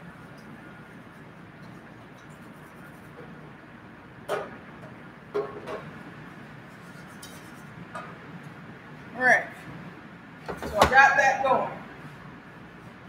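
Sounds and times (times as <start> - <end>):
kitchen exhaust hood hum: 0.0 - 13.0.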